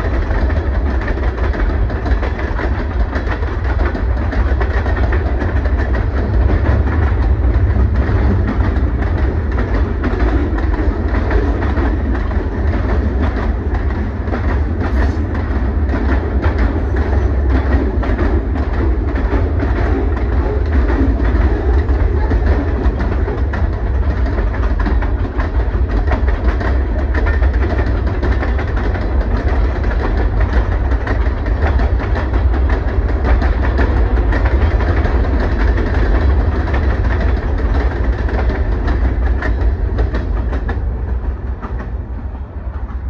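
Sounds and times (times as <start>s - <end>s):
wheels clicking over rail joints: 0.0s - 43.0s.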